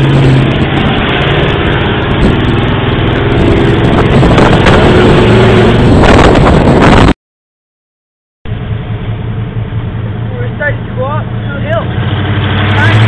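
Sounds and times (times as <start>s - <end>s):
truck engine: 0.0s - 7.2s, 8.5s - 13.0s.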